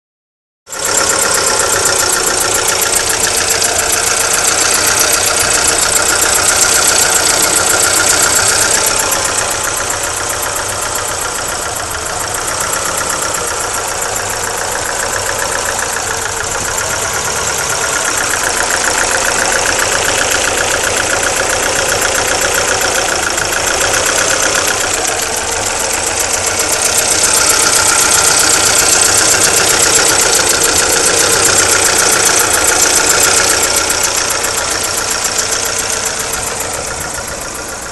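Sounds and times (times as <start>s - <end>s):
car engine running: 0.7s - 37.9s.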